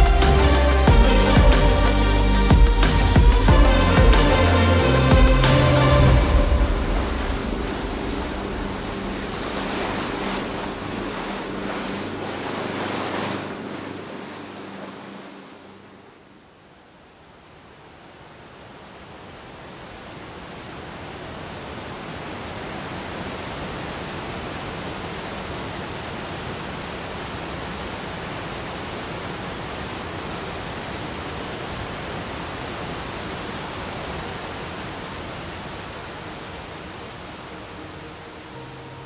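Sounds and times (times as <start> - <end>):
waterfall rushing: 0.0 - 16.4, 17.6 - 39.0.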